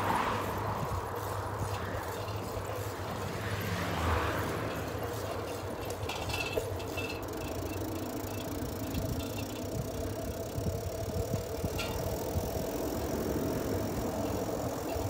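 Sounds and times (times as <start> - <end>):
wind noise on microphone: 0.0 - 7.8, 8.6 - 15.0
car passing: 0.0 - 15.0
traffic noise: 0.0 - 15.0.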